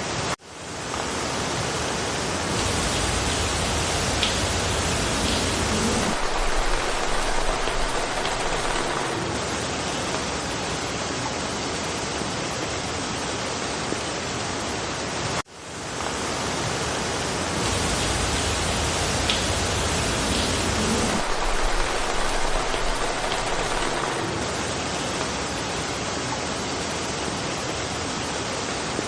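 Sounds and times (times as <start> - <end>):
rain falling in forest: 0.0 - 29.0.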